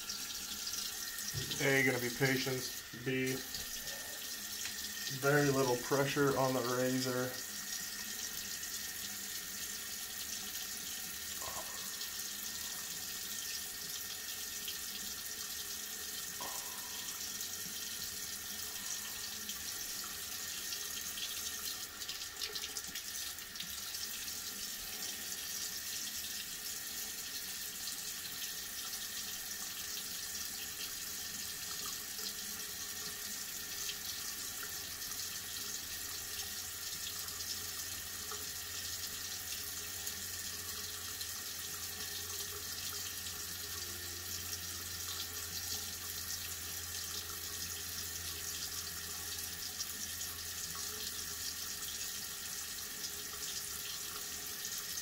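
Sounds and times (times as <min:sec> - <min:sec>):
water running from tap: 0:00.0 - 0:55.0.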